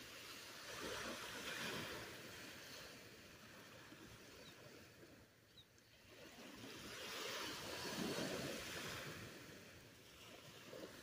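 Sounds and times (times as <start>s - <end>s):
small waves washing onto beach: 0.0s - 11.0s.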